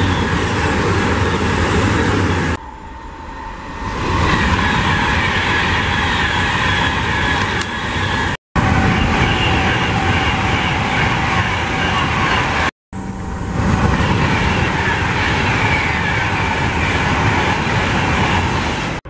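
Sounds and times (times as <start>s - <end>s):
trains passing at speed: 0.0s - 19.0s.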